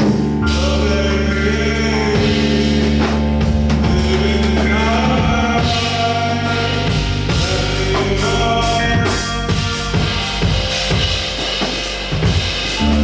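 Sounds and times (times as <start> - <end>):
person singing: 0.0 - 10.9
live band playing: 0.0 - 13.0.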